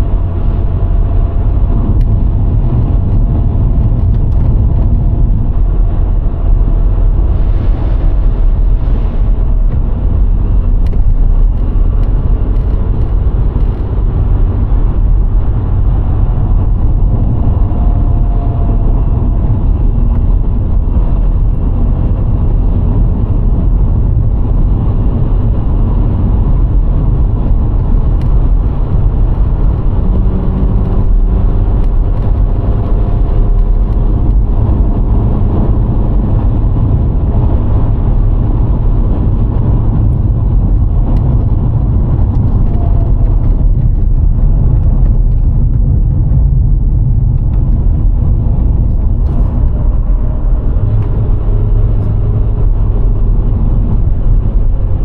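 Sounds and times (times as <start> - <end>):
faint car engine hum: 0.0 - 55.0
road and wind noise: 0.0 - 55.0.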